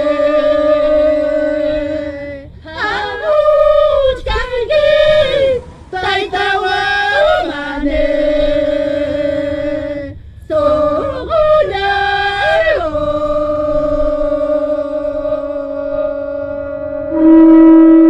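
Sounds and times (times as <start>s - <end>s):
women singing unaccompanied: 0.0s - 17.2s.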